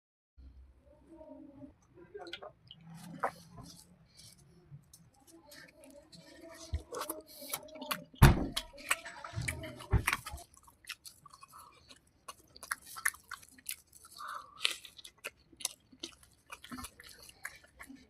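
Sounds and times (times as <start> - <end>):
chewing and crunching food: 1.8 - 18.0.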